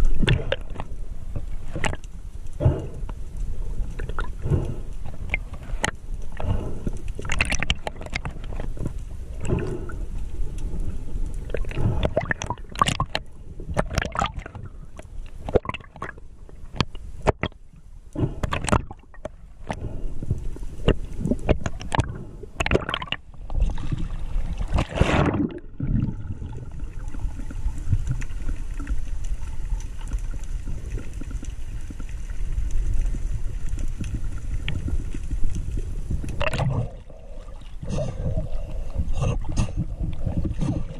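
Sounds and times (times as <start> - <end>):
underwater rumble: 0.0 - 40.9
water gurgles and clicks: 0.0 - 40.9.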